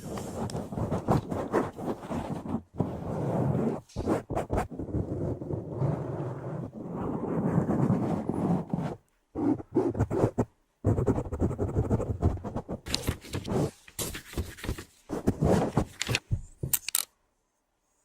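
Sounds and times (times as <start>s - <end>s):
scraping and rubbing on microphone: 0.0s - 16.7s.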